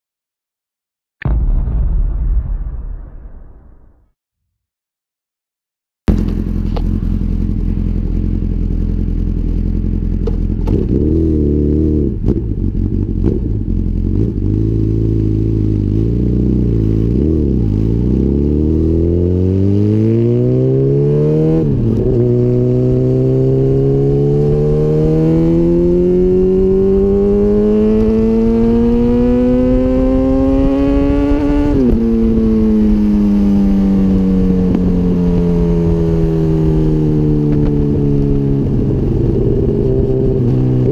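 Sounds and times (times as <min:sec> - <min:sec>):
motorcycle engine revving: 0:06.1 - 0:40.9.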